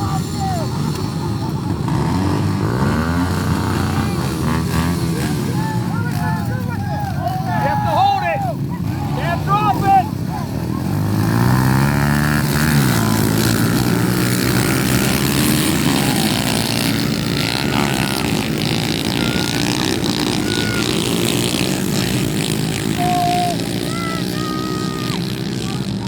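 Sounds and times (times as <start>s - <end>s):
pit bike engines revving: 0.0s - 26.0s.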